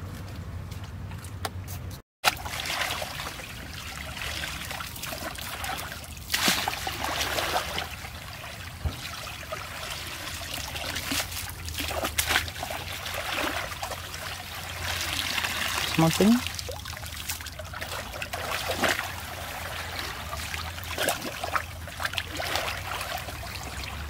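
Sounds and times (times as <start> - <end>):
basket splashing through water: 2.2 - 24.0
stream water trickling: 2.2 - 24.0.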